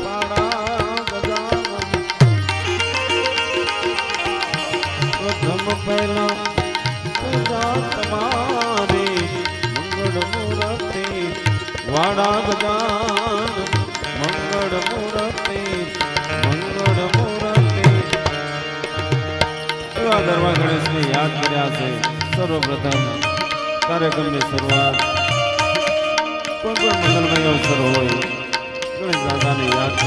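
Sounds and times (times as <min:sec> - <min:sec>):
tabla drums: 0:00.0 - 0:30.0.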